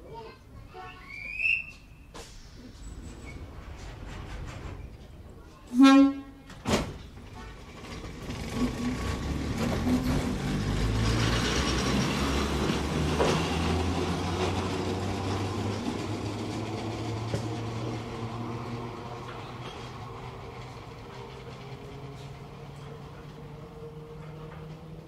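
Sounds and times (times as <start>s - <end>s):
wheel and rail noise: 0.1s - 25.0s
train running hum: 2.1s - 25.0s.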